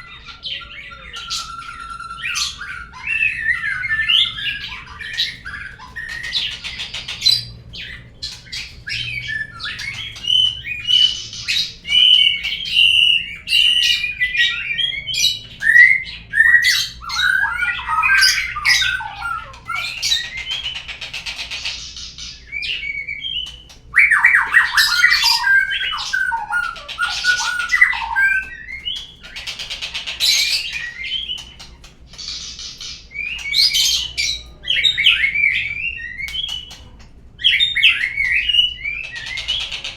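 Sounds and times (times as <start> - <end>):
bird song whistles and chatters: 0.0 - 39.9.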